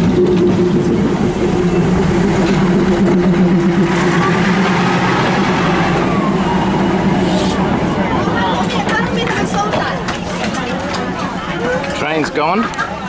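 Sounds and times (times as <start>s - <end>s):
diesel railcar engine running: 0.0s - 13.0s.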